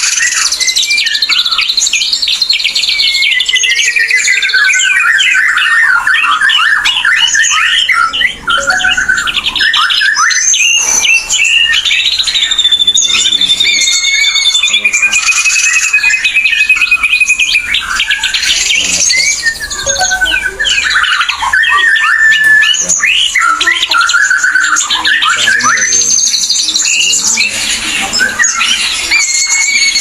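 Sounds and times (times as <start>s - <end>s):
bird singing whistles and trills: 0.0s - 30.0s.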